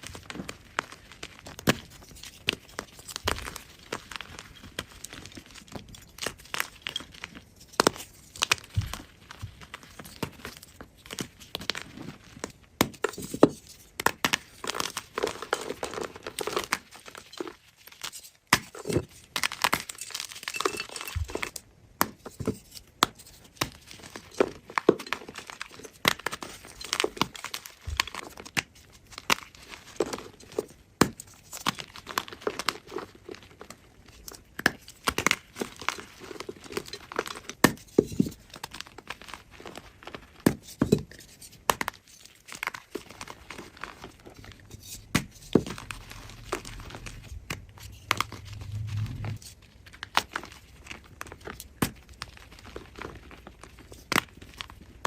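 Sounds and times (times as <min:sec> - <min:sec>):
chalk crunching and crumbling: 0:00.0 - 0:55.0.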